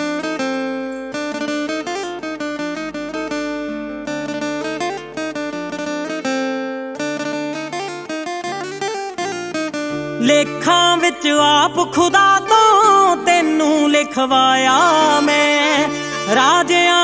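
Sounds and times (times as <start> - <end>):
acoustic guitar plucking melody: 0.0 - 17.0.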